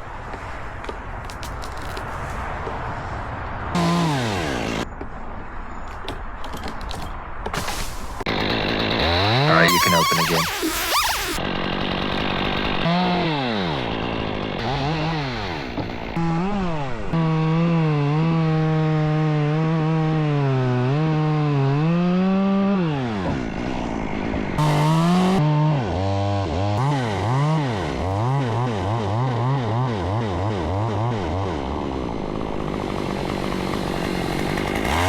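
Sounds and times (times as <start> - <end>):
chainsaw revving and cutting: 3.7 - 4.9, 7.7 - 35.0.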